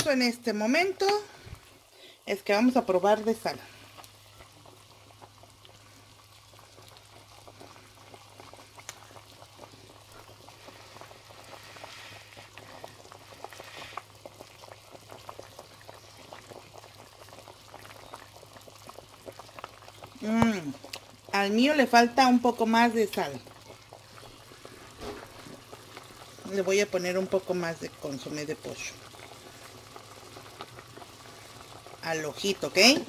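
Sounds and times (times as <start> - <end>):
broth bubbling and popping: 0.0 - 33.0.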